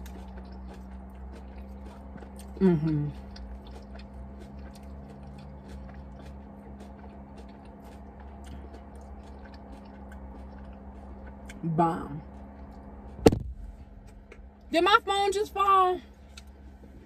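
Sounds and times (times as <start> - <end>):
person chewing food: 0.0 - 14.7, 16.1 - 17.0
steady low hum: 0.0 - 17.0.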